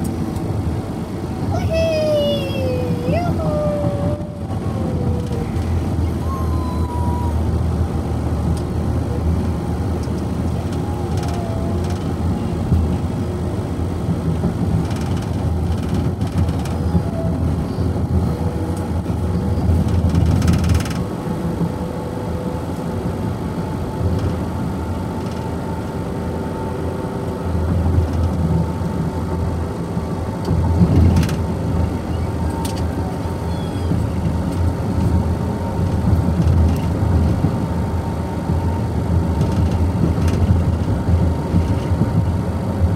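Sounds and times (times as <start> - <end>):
car cabin road rumble: 0.0 - 42.9.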